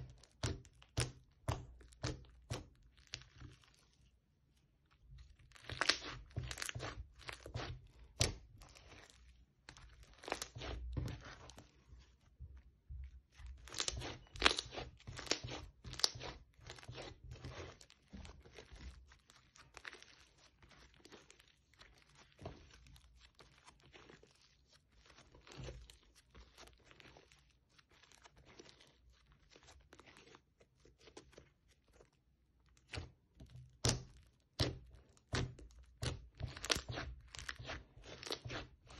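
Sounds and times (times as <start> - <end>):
crunchy slime crackling: 0.0 - 4.2, 4.8 - 12.3, 13.3 - 38.9.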